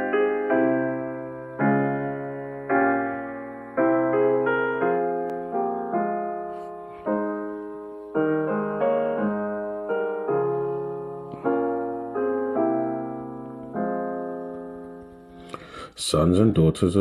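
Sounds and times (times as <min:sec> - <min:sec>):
slow gentle piano music: 0:00.0 - 0:15.9.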